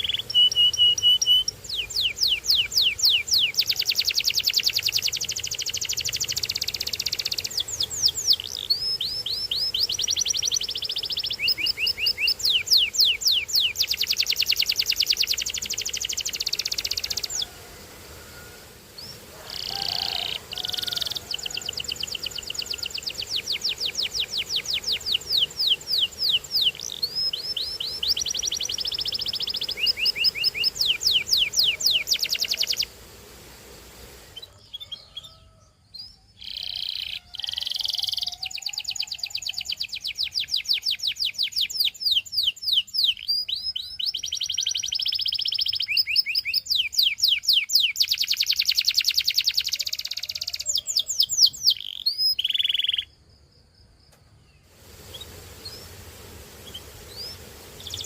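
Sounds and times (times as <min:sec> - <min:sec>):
canary singing trills: 0:00.0 - 0:17.6, 0:18.2 - 0:33.0, 0:34.3 - 0:53.2, 0:56.6 - 0:58.0.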